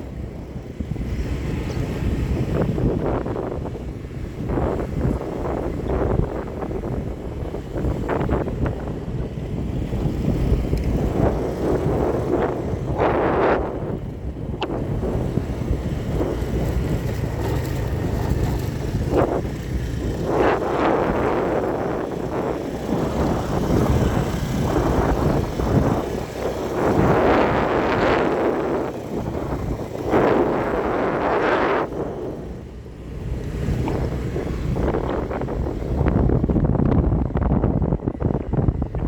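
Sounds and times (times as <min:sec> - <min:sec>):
wind gusts on microphone: 0:00.0 - 0:39.0.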